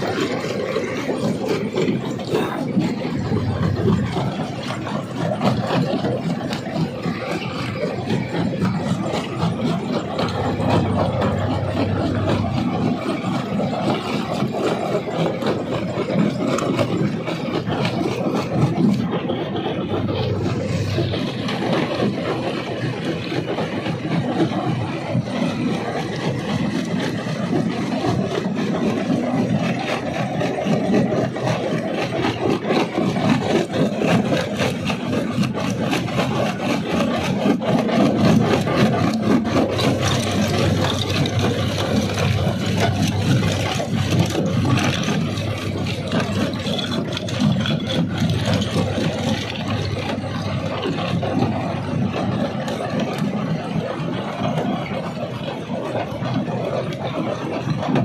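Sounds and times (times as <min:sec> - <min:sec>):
rock crusher machinery drone: 0:00.0 - 0:58.0.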